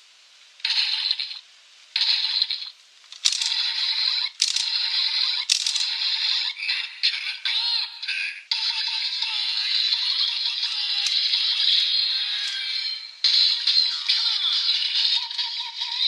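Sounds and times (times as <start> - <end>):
toy electronic sound effects: 0.6 - 1.4, 2.0 - 16.0.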